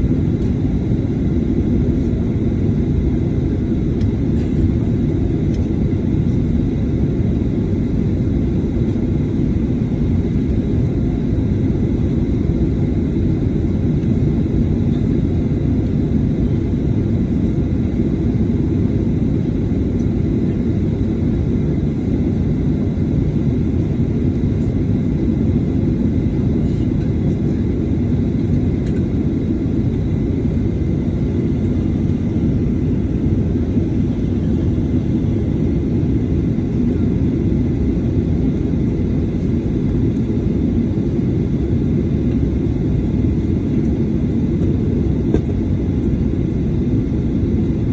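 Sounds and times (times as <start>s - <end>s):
aircraft cabin rumble: 0.0s - 47.9s.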